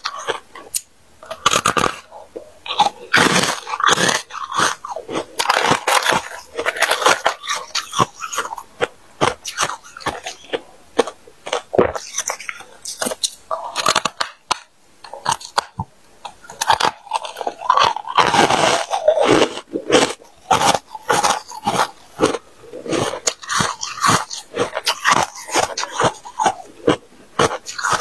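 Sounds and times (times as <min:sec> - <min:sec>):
chewing ice crunches: 0:00.0 - 0:02.1, 0:02.7 - 0:28.0.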